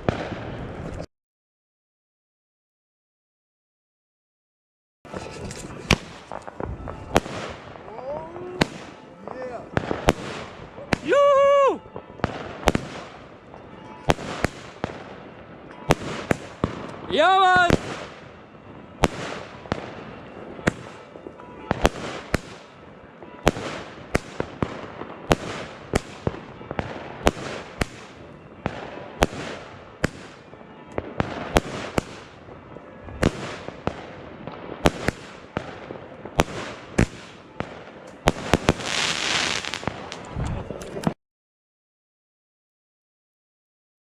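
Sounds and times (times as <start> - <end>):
firework bangs: 0.0 - 1.1, 5.1 - 40.4
firework crackling: 5.1 - 41.1.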